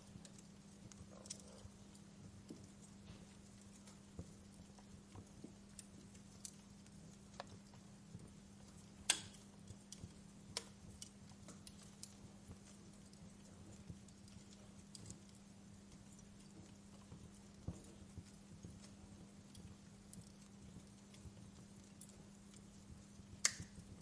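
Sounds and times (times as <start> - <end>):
steady low hum: 0.0 - 24.0
wood fire crackling: 0.0 - 24.0.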